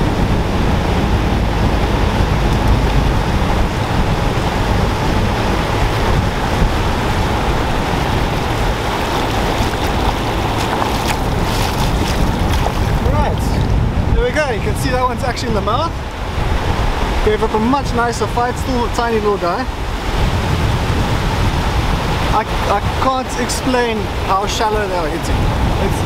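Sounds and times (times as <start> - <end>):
surf breaking on beach: 0.0 - 26.0
water splashes: 0.0 - 26.0
wind rumble on microphone: 0.0 - 26.0.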